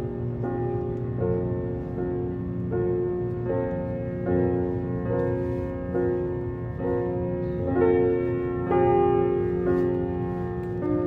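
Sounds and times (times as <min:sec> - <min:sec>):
calm piano music: 0:00.0 - 0:11.0
low steady rumble: 0:00.0 - 0:11.0.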